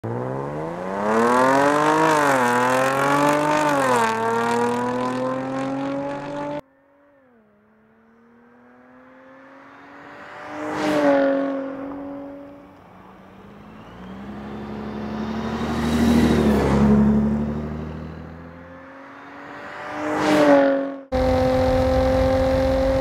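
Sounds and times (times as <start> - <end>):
car approaching: 0.0 - 23.0
sports car engine accelerating: 0.0 - 23.0.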